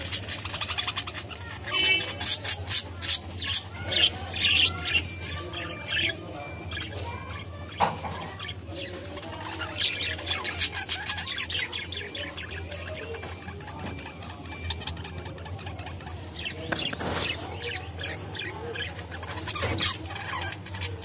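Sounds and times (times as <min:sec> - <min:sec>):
budgerigars chirping: 0:00.0 - 0:21.0.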